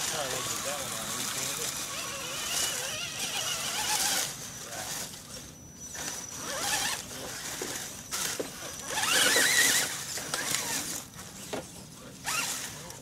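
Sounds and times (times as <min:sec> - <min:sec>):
toy car electric motor whirring: 0:00.0 - 0:05.2, 0:05.8 - 0:11.1, 0:12.3 - 0:12.9.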